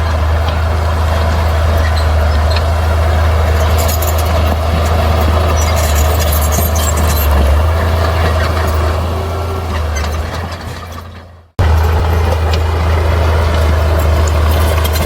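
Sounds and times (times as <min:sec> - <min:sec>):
diesel machinery drone: 0:00.0 - 0:15.0
metallic clatter: 0:00.0 - 0:15.0.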